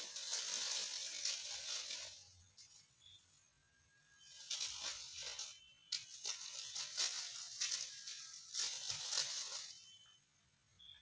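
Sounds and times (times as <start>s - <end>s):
dry leaves crackling and rustling: 0.0s - 3.4s, 4.2s - 10.2s.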